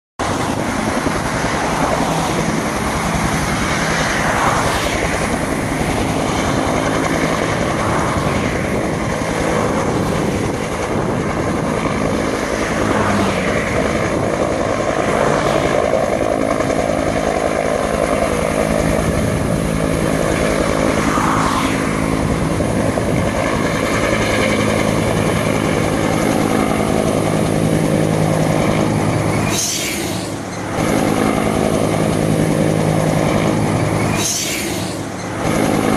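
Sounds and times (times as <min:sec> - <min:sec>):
helicopter rotor beat and whine: 0:00.2 - 0:35.9.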